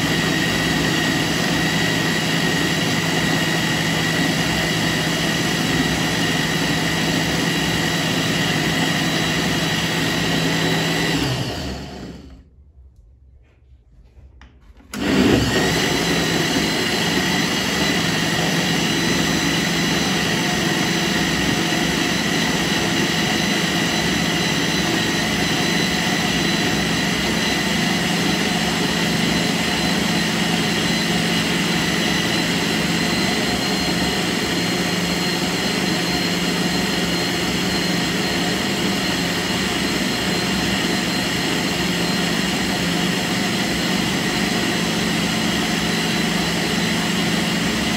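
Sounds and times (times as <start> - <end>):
blender motor whining: 0.0 - 12.5, 14.9 - 47.9.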